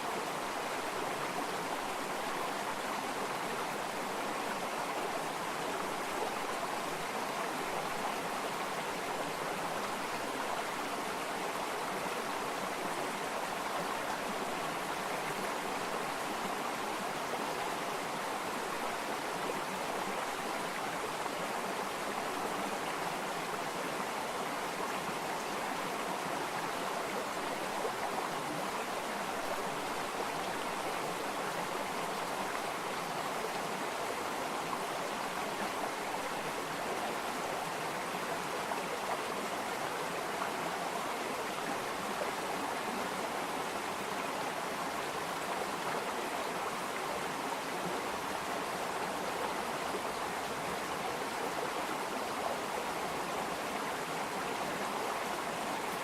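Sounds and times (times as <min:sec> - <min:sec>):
water flowing in a stream: 0:00.0 - 0:56.0.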